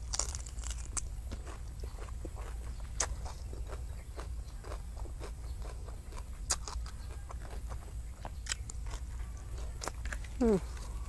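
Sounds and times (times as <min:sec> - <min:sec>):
chewing and lip smacks: 0:00.0 - 0:11.0
steady low hum: 0:00.0 - 0:11.0.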